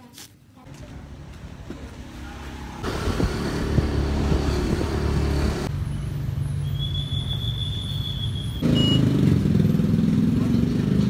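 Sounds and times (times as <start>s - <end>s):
vehicle engine and road rumble: 0.3s - 11.0s.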